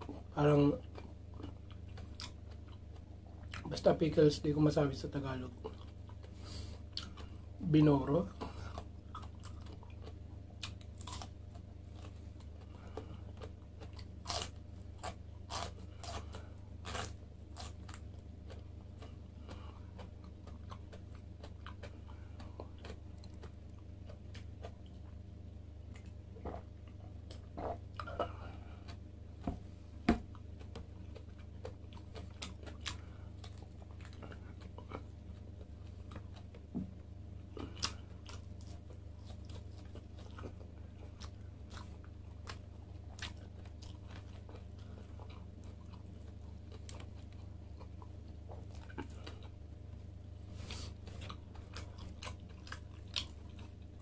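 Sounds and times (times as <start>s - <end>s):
crunching and chewing: 0.0s - 54.0s.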